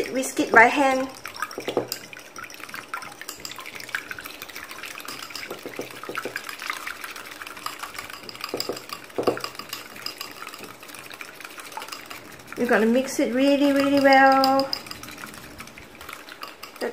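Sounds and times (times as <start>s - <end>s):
whisk beating egg in bowl: 0.0s - 16.9s.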